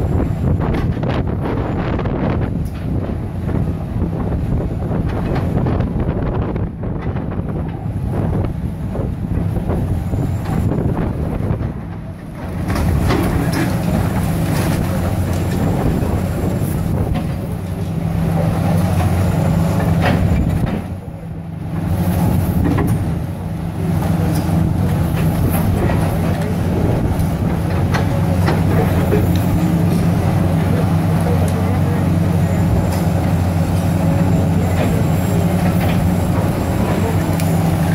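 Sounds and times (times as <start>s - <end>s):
diesel excavator engines running: 0.0s - 37.9s.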